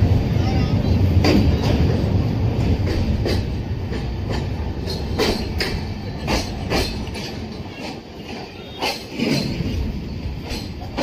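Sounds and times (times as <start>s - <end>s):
train rumbling: 0.0s - 11.0s
wheels clacking over rail joints: 1.0s - 11.0s.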